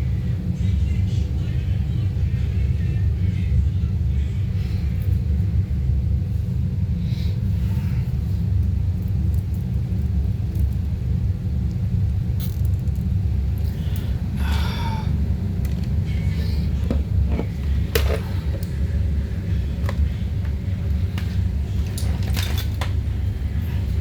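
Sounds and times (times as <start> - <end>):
refrigeration unit humming: 0.0 - 24.0.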